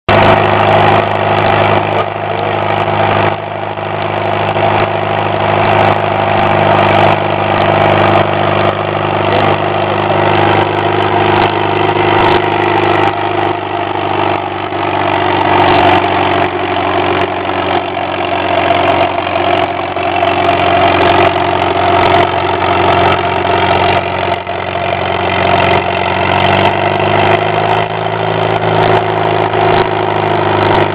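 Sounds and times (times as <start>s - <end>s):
tractor engine running under load: 0.1s - 30.9s.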